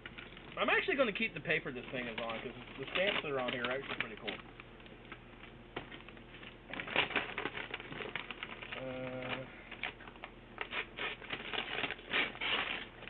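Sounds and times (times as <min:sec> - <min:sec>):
paper wrapping crinkling and tearing: 0:00.1 - 0:04.6, 0:05.8 - 0:13.0.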